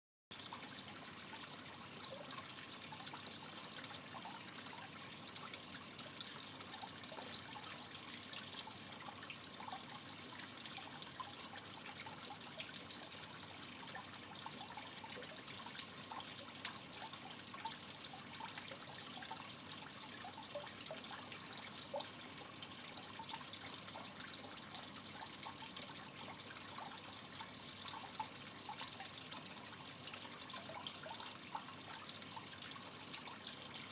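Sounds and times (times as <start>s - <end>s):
aquarium water trickling: 0.3s - 33.9s
small pops and drips: 0.4s - 33.9s.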